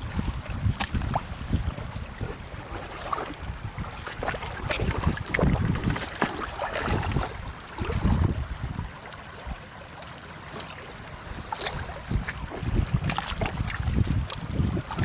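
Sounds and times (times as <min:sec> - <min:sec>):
wind rumble on microphone: 0:00.0 - 0:09.8, 0:11.0 - 0:15.0
water sloshing and splashing: 0:00.0 - 0:15.0.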